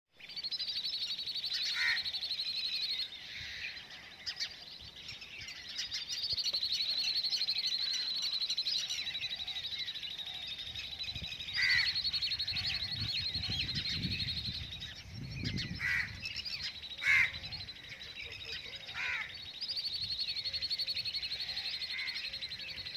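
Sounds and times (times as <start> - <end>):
short loud bird calls: 0.3 - 22.9.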